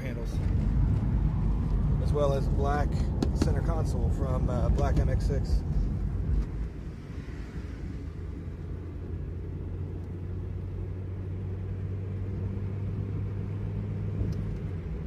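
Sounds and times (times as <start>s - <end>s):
car engine hum from inside cabin: 0.0s - 15.0s.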